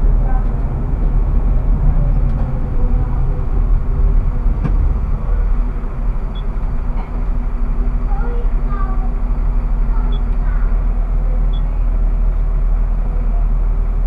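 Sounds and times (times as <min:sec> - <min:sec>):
tram rumbling: 0:00.0 - 0:14.0.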